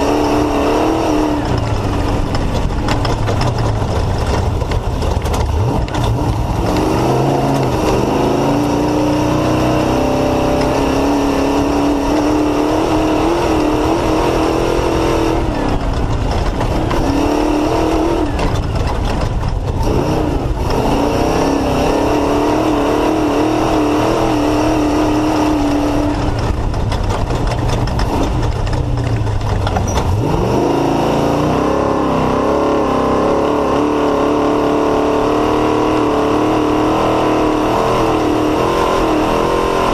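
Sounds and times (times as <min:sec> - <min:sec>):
car rattling over rough ground: 0:00.0 - 0:39.9
race car engine running hard: 0:00.0 - 0:39.9.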